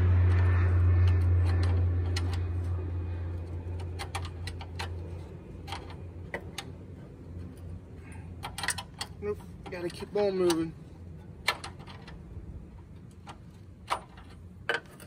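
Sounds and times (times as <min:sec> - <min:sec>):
airplane engine drone: 0:00.0 - 0:15.0.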